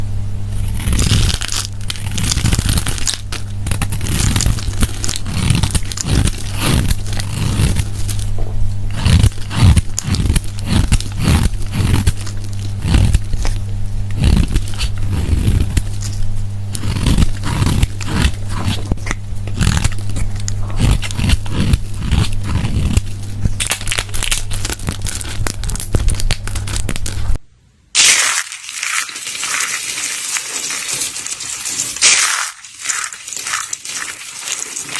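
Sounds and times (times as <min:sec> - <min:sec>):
steady low hum: 0:00.0 - 0:34.9
soap crumbling and crunching: 0:00.6 - 0:27.4, 0:28.0 - 0:34.9.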